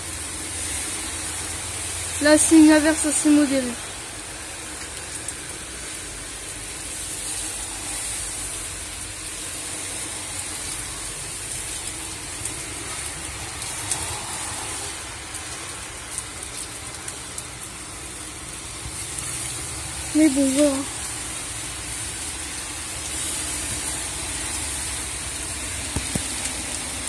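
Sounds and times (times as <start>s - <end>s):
rain falling steadily: 0.0s - 27.0s.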